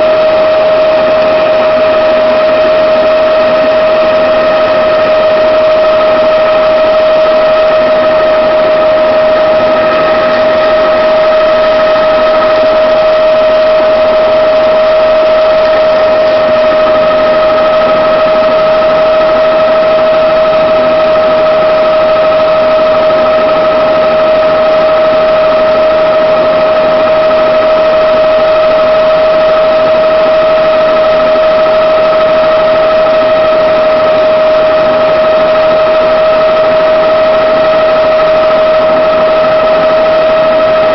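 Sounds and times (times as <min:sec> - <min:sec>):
helicopter engine and rotor noise: 0:00.0 - 0:40.9
high whine: 0:00.0 - 0:40.9.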